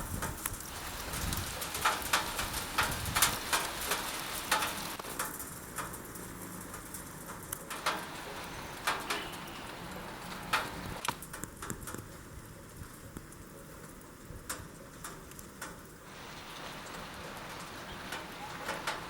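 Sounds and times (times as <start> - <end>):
rain hiss: 0.0 - 19.0
water dripping and splashing: 0.1 - 12.1, 12.7 - 19.0.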